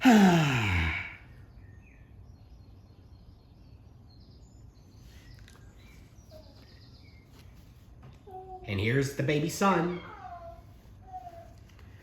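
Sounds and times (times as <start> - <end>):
birds chirping and trilling: 0.0 - 12.0
low background hum: 0.0 - 12.0.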